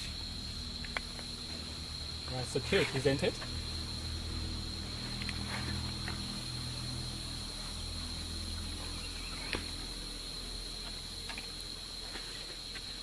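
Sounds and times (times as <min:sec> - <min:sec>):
low hum: 0:00.0 - 0:12.6
insects droning: 0:00.0 - 0:13.0.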